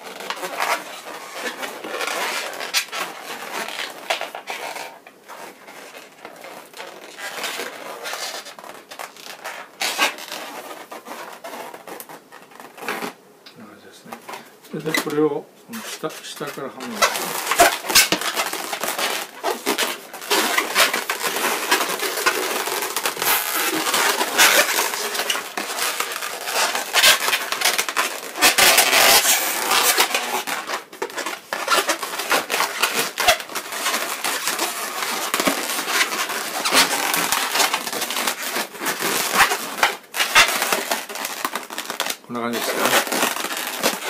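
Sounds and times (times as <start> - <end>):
balloons squeaking and rubbing: 0.0 - 13.2, 13.8 - 44.0.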